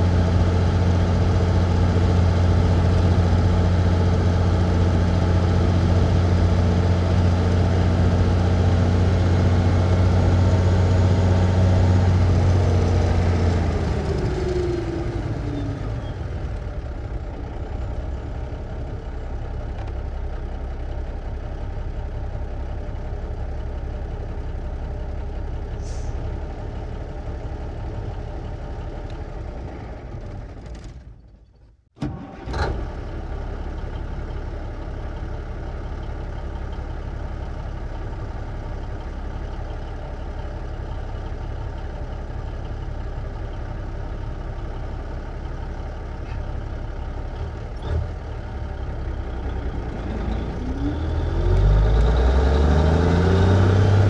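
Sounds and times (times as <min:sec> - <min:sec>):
truck engine running: 0:00.0 - 0:31.3, 0:32.1 - 0:54.0.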